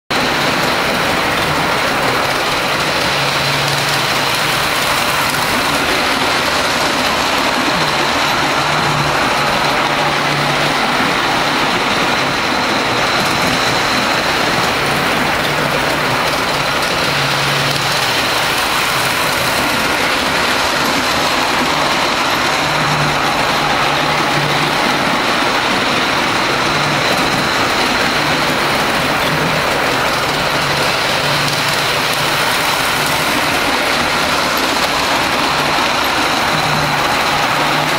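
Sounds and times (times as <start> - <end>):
model train rumbling on track: 0.0 - 37.9.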